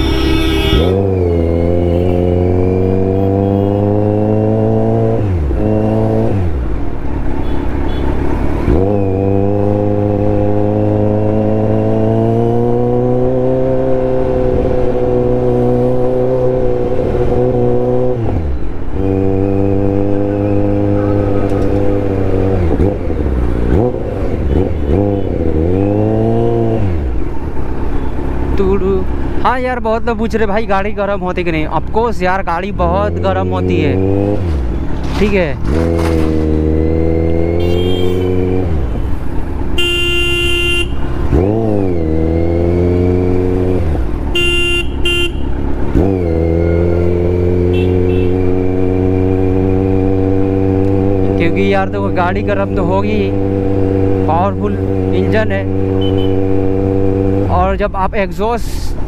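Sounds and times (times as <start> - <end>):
motorcycle engine revving: 0.0 - 6.8, 7.4 - 29.4, 32.7 - 57.9.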